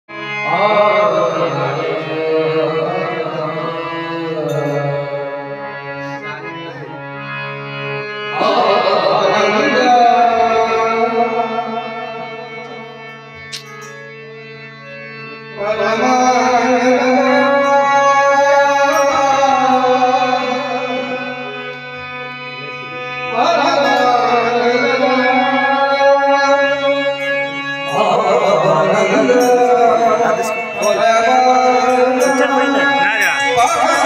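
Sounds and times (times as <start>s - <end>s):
man singing devotional song: 0.1s - 6.6s, 8.2s - 13.2s, 15.5s - 22.2s, 22.9s - 34.0s
harmonium drone: 0.1s - 34.0s.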